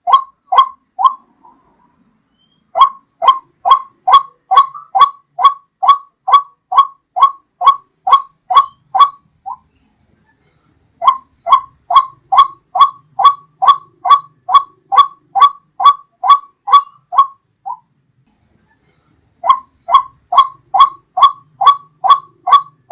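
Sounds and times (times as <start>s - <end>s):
waterhen calling: 0.0s - 1.7s, 2.3s - 9.7s, 11.0s - 17.8s, 19.4s - 22.9s.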